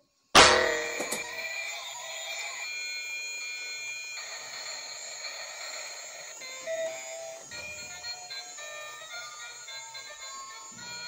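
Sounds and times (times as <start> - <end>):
toy train electronic melody: 0.5 - 11.0.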